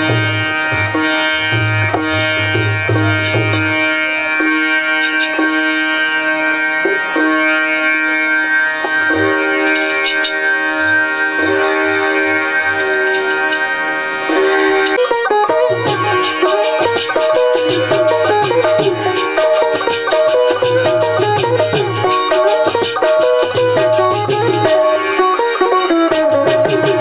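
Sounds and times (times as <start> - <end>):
plucked string melody: 0.0 - 27.0.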